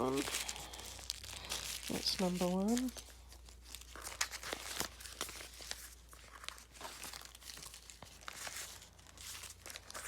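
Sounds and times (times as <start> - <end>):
wrapping crinkling: 0.0 - 10.0.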